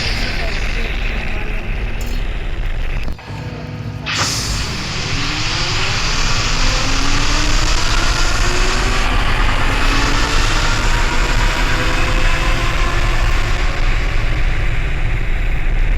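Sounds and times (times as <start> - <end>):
jet engine rushing: 0.0 - 3.4, 4.0 - 15.9.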